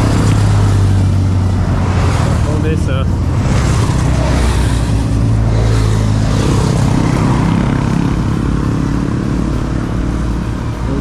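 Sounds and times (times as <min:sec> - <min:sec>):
motorcycles passing: 0:00.0 - 0:11.0.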